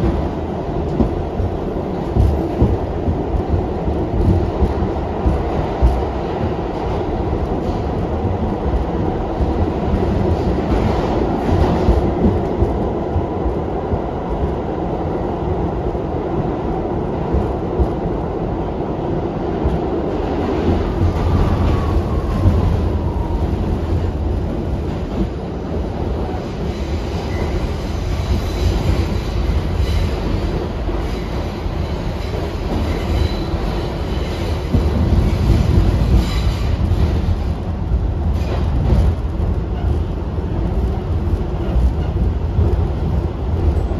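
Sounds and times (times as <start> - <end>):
subway train running: 0.0 - 43.9.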